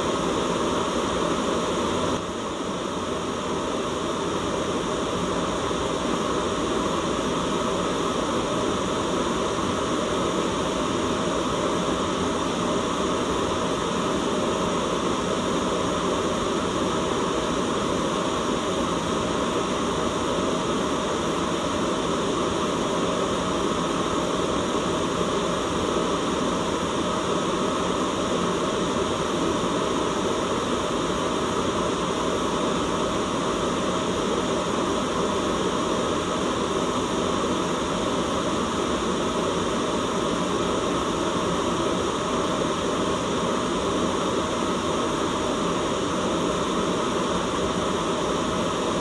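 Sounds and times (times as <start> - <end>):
white noise hiss: 0.0 - 49.0.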